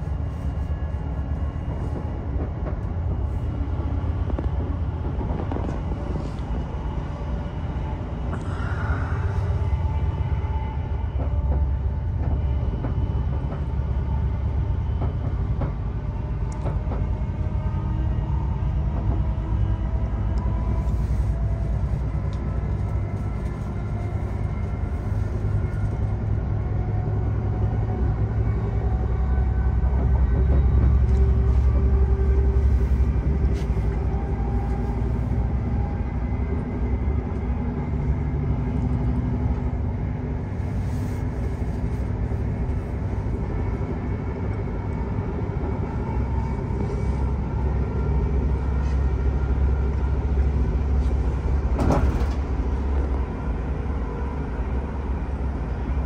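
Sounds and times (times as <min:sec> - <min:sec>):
train rumbling inside carriage: 0:00.0 - 0:56.0.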